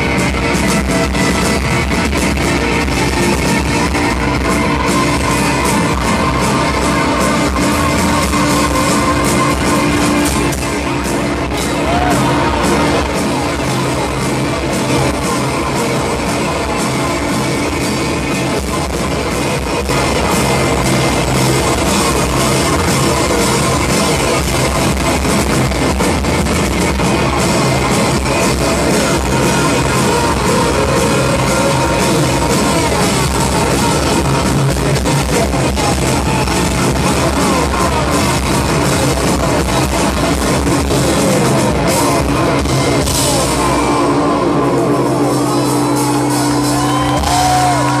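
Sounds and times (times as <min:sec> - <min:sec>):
live rock band playing loudly: 0:00.0 - 0:48.0.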